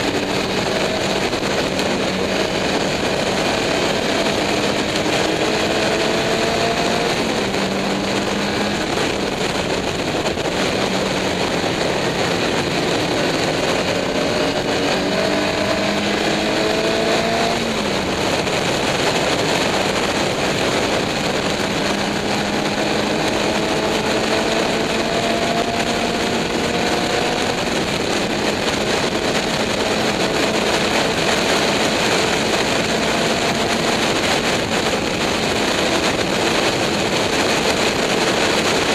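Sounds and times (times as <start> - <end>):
racing car engine: 0.0 - 38.9
wind noise over microphone: 0.0 - 38.9.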